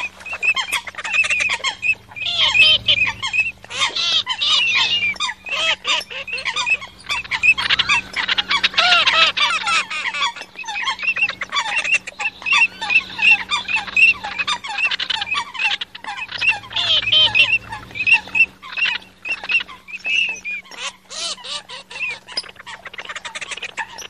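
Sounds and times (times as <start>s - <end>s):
faint steady hum: 0.0s - 24.0s
waterbird whistles and squawks: 0.0s - 24.0s.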